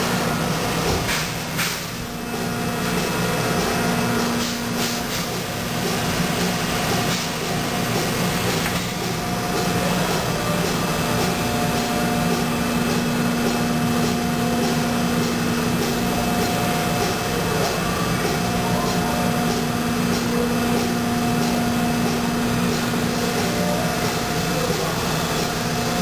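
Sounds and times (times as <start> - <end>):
machine mechanical hum: 0.0 - 26.0.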